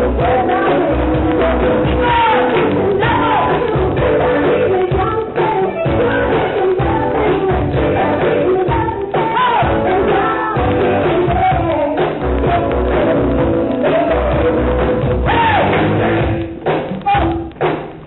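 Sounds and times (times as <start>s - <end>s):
dance music with singer: 0.0s - 18.0s
steady drum beat: 0.0s - 18.0s.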